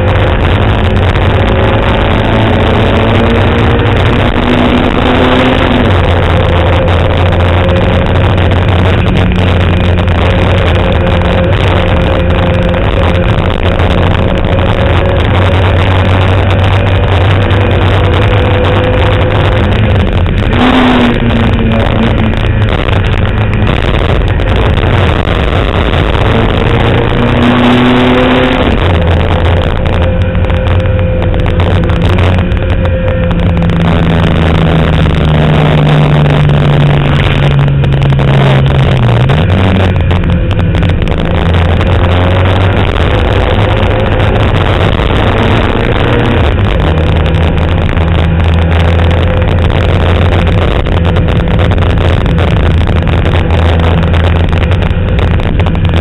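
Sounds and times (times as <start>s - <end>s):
car engine at high revs: 0.0s - 56.0s.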